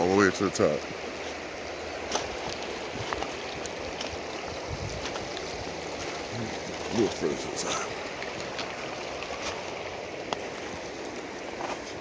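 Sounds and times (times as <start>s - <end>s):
river water rushing over stones: 0.0s - 12.0s.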